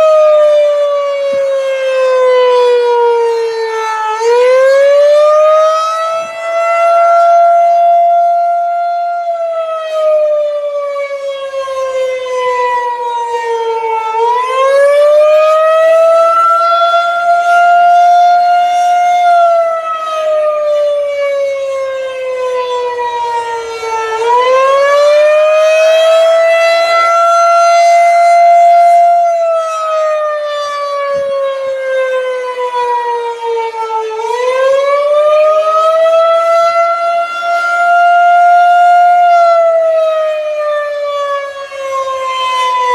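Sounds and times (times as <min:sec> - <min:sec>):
wavering warning siren: 0:00.0 - 0:42.9.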